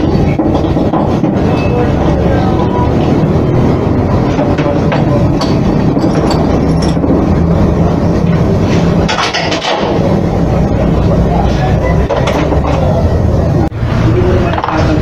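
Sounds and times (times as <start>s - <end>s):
low mechanical hum and rumble: 0.0s - 15.0s.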